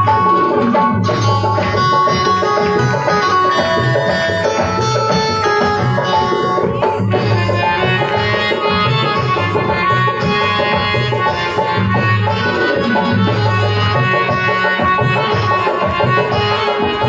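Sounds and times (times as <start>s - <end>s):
hand drum strokes: 0.0s - 17.0s
keyboard sustained melody: 0.0s - 17.0s.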